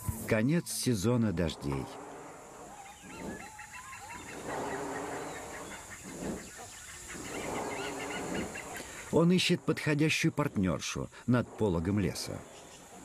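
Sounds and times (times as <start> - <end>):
birds chirping: 0.0 - 13.0
high insect drone: 0.0 - 13.0.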